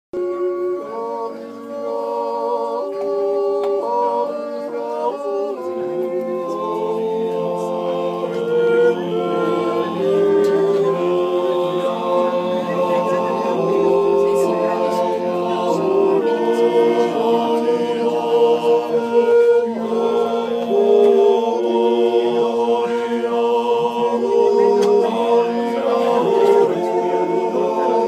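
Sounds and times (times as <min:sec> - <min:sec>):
men's voices yodelling in chords: 0:03.8 - 0:28.0.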